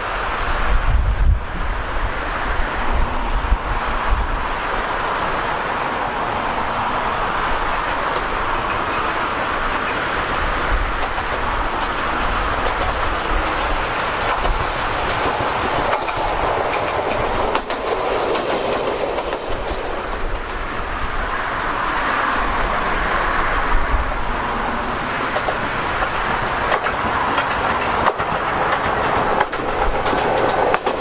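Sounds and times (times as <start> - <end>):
electric train passing: 0.0 - 31.0
wheels clicking over rail joints: 4.7 - 31.0.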